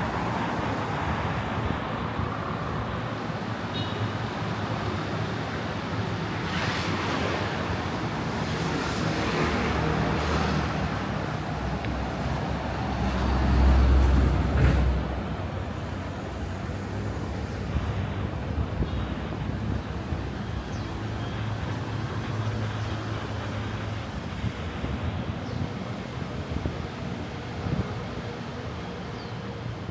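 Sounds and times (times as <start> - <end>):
city street traffic: 0.0 - 29.9.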